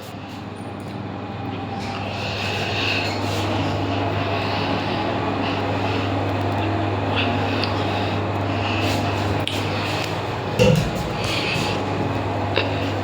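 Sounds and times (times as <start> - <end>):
lift hum and rumble: 0.0 - 13.0.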